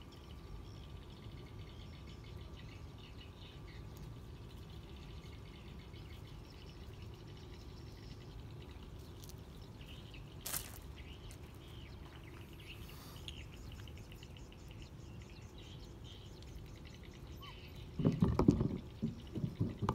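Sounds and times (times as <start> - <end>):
low outdoor background noise: 0.0 - 19.9.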